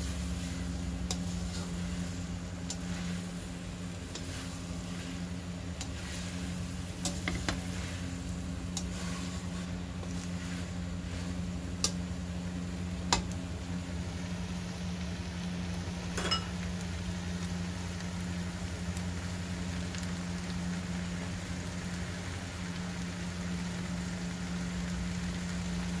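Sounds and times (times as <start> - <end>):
noodles sizzling in a wok: 0.0 - 26.0
steady low hum: 0.0 - 26.0.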